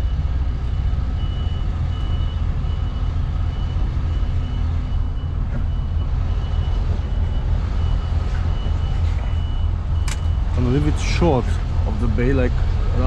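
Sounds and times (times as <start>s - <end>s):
reversing alarm beeps: 0.0s - 10.7s
truck diesel engine running: 0.0s - 13.0s.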